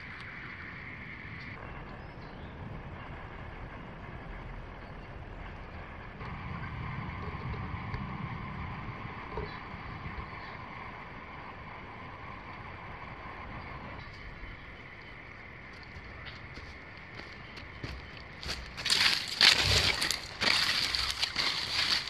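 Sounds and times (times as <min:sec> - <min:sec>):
faint high drone: 0:00.0 - 0:22.0
wind rumbling on microphone: 0:00.0 - 0:22.0.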